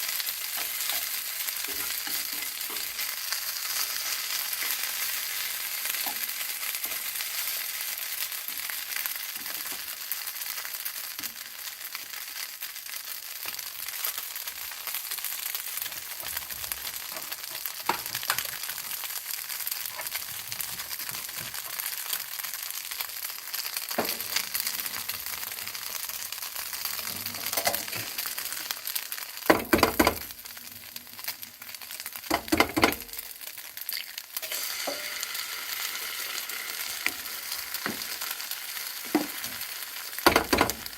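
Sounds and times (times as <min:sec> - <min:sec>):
stir-fry sizzling in a frying pan: 0:00.0 - 0:40.9.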